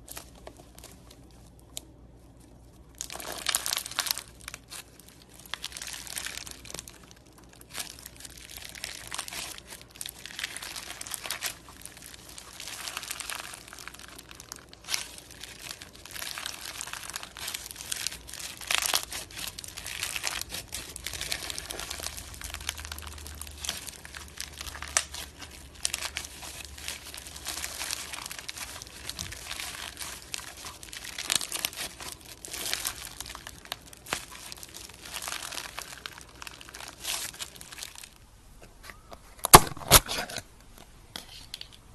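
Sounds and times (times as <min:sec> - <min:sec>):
slime squeezed by hand crackling: 0:03.0 - 0:38.1.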